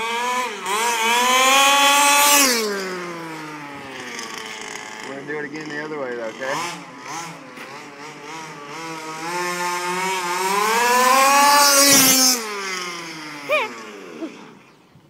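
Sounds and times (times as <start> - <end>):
rc buggy engine speeding past: 0.0 - 14.8.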